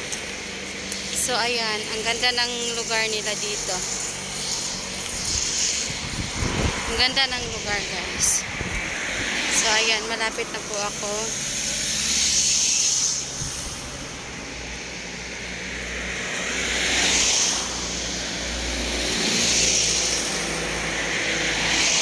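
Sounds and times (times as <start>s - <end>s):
steady low traffic rumble: 0.0s - 22.0s
vehicles passing by: 0.0s - 22.0s.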